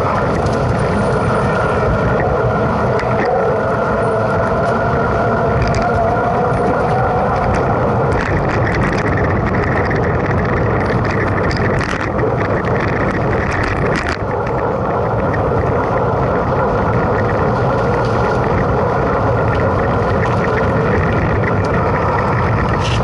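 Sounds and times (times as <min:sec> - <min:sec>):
bike tyre noise and rattle: 0:00.0 - 0:23.0
wind rush on microphone: 0:00.0 - 0:23.0.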